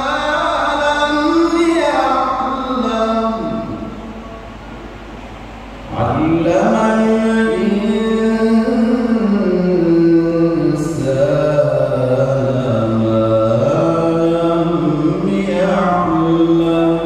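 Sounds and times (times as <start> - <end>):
man chanting into a microphone: 0.0 - 4.1, 5.9 - 17.0.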